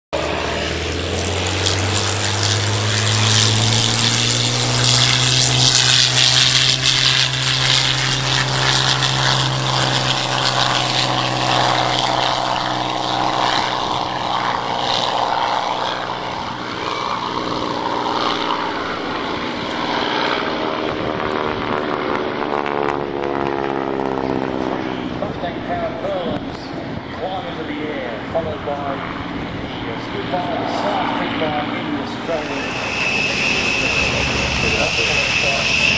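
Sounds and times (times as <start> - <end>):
propeller and exhaust noise: 0.1 - 35.9.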